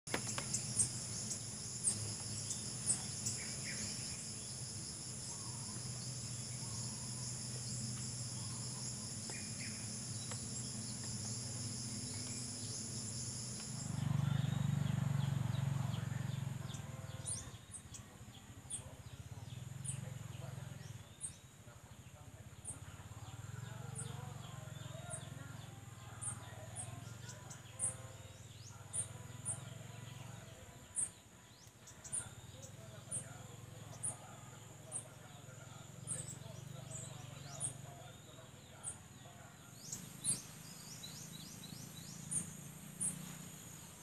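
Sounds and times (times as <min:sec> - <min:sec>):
insects trilling: 0:00.1 - 0:21.8, 0:22.5 - 0:44.0.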